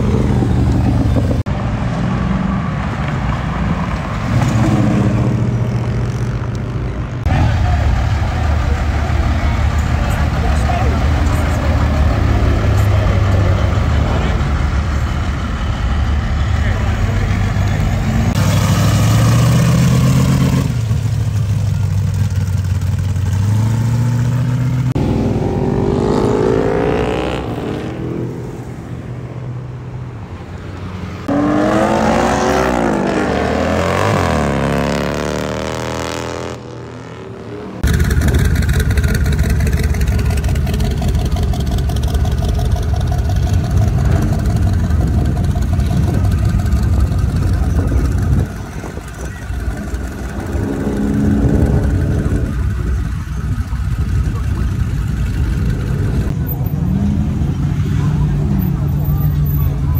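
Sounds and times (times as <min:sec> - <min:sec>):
vehicles driving past: 0:00.0 - 0:59.9.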